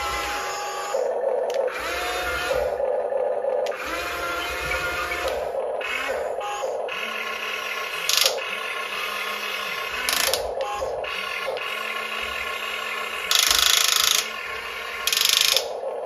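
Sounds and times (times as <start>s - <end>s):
simulated engine hum: 0.0s - 16.0s
small drive motors whirring: 0.0s - 16.0s.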